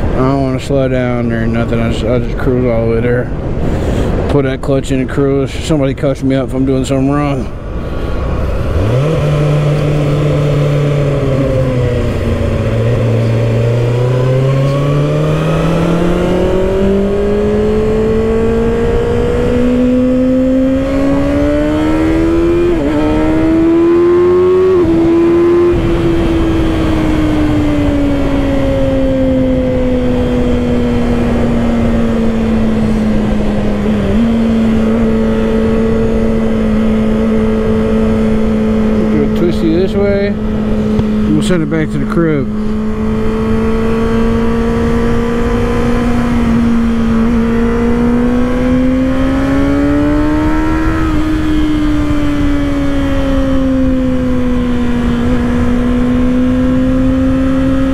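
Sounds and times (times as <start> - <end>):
wind noise: 0.0 - 57.9
motorcycle engine revving: 7.6 - 57.9.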